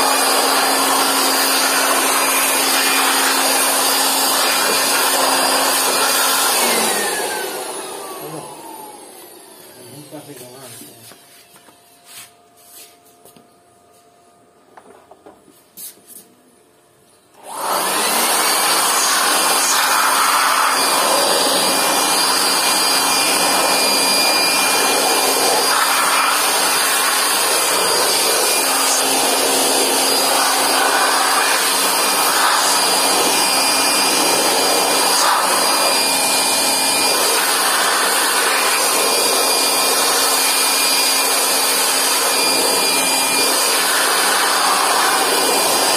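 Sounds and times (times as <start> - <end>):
electric air blower whining: 0.0 - 13.1, 17.3 - 45.9.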